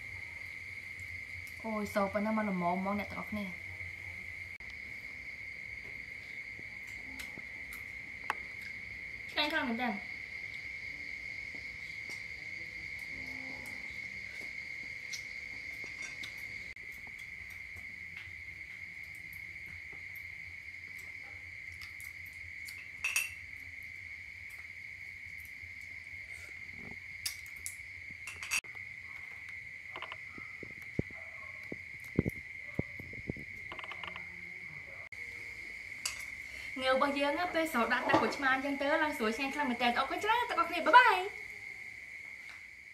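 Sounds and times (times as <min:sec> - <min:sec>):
insect trilling: 0:00.0 - 0:42.9.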